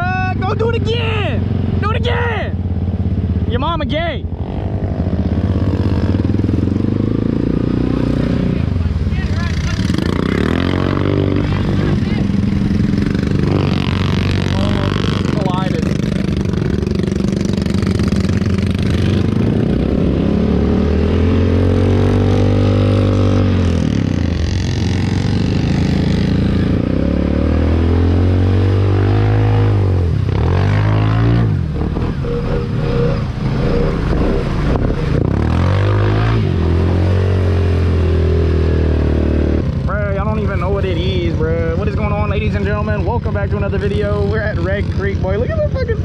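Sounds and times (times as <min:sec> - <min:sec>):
atv engine revving: 0:00.0 - 0:46.0.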